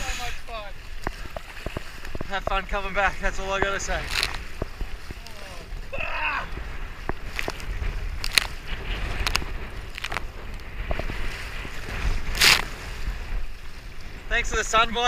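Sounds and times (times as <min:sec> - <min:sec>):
water splashing against kayak: 0:00.0 - 0:15.0
wind rumbling on microphone: 0:00.0 - 0:15.0.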